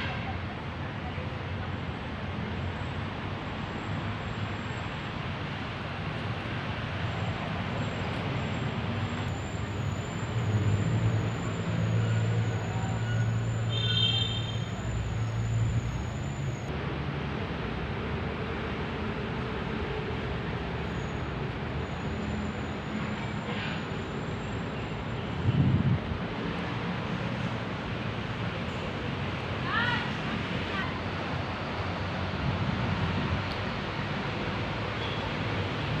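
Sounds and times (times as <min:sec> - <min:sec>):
city road traffic: 0:00.0 - 0:36.0.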